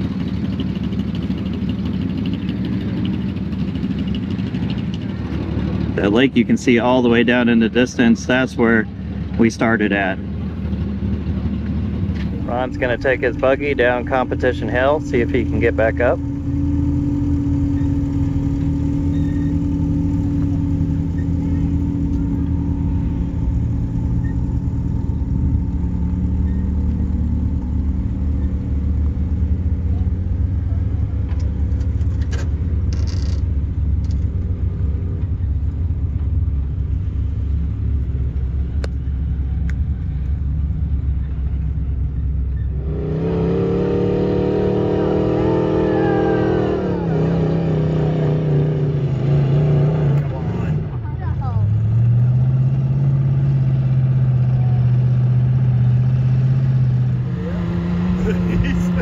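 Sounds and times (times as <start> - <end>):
engine revving: 0.0 - 35.4, 42.5 - 59.0
buggy engine running under load: 0.0 - 59.0.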